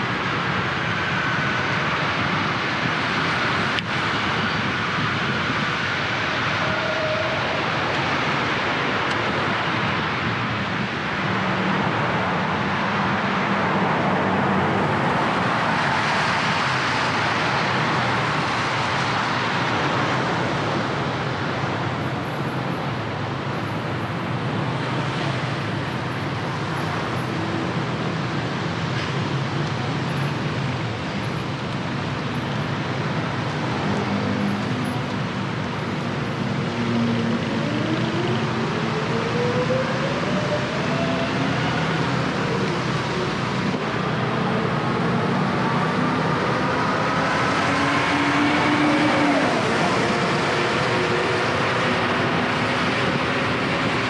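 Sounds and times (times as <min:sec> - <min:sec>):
low hum of engines: 0:00.0 - 0:54.0.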